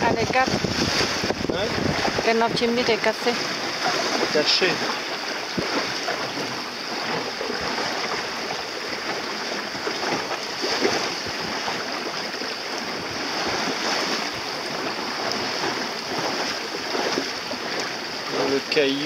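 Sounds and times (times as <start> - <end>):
water rushing along boat hull: 0.0 - 19.0.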